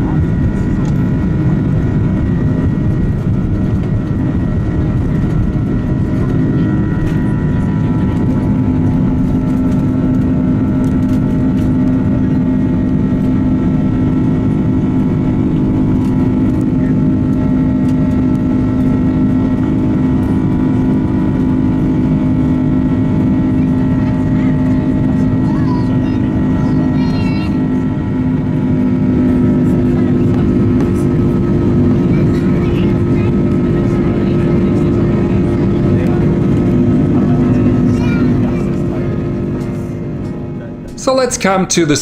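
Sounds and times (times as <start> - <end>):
airliner cabin engine drone: 0.0 - 42.0.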